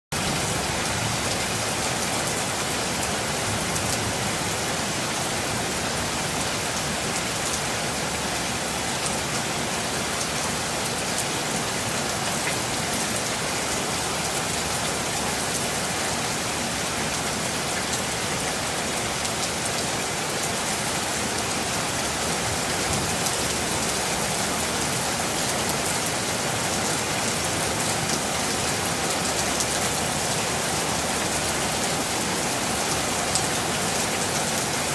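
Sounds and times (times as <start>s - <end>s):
rain falling on a surface: 0.1s - 34.9s.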